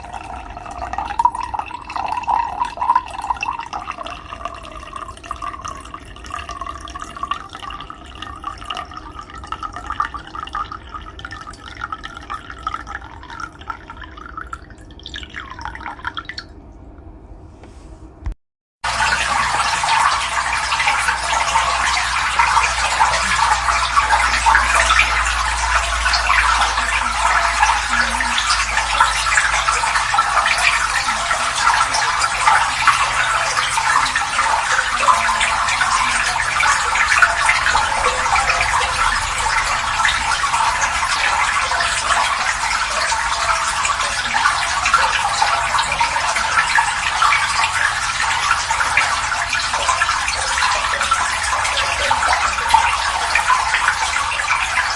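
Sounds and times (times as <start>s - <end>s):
water pouring and splashing: 0.0s - 16.6s, 18.8s - 54.9s.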